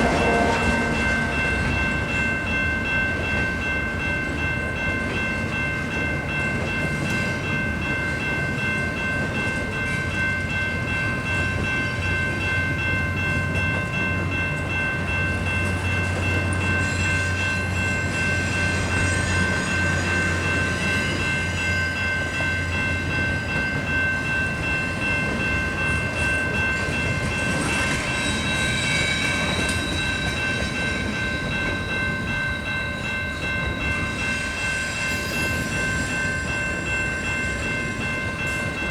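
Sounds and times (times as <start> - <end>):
high multi-tone ringing: 0.0 - 38.9
train wheels rumbling on rails: 0.0 - 38.9.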